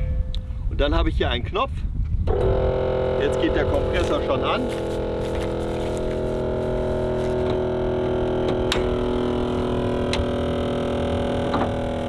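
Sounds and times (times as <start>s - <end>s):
air compressor humming: 2.3s - 12.0s.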